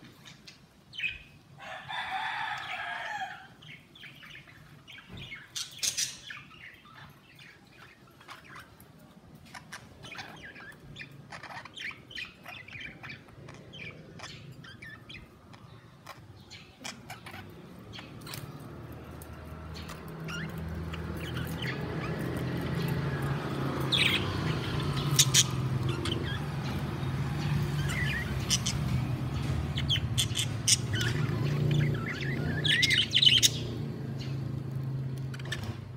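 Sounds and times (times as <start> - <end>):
budgerigars chirping: 3.6 - 8.8, 9.4 - 18.6, 19.7 - 34.4.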